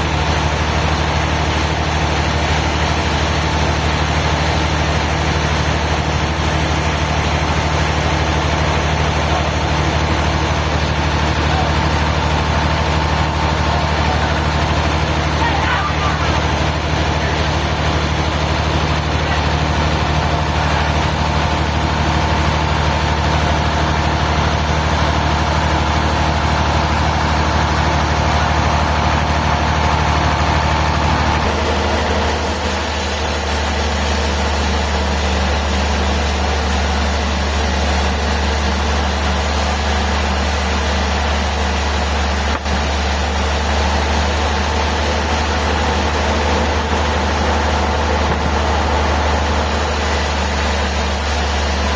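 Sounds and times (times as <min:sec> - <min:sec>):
heavy engine idling: 0:00.0 - 0:51.9.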